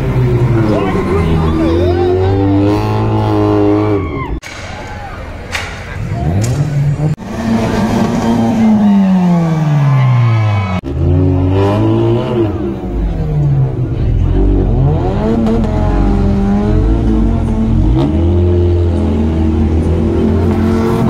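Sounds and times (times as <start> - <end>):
car engines revving hard: 0.0 - 4.4, 5.9 - 21.0.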